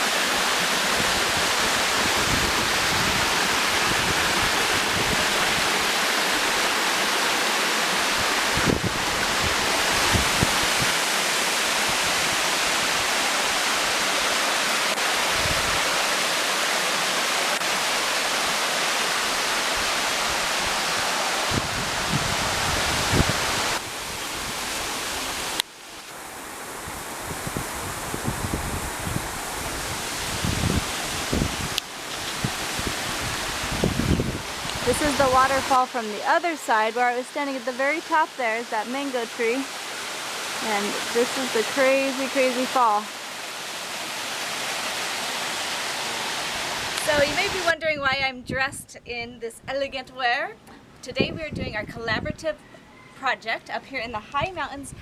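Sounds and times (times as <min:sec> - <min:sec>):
waterfall rushing: 0:00.0 - 0:47.8
wind rustling leaves: 0:00.0 - 0:55.0.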